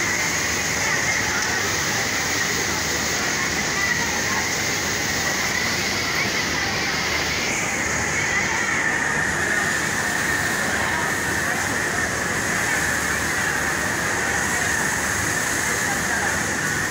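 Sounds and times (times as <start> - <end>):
industrial sewing machines running: 0.0 - 16.9.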